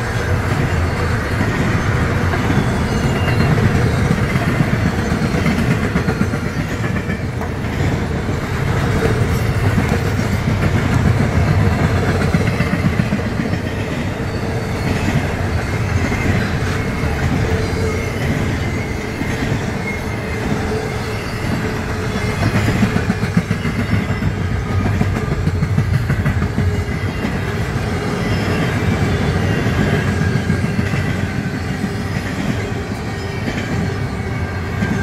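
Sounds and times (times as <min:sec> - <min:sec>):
clickety-clack over rail joints: 0:00.0 - 0:35.0
freight train wheels rumbling on rail: 0:00.0 - 0:35.0.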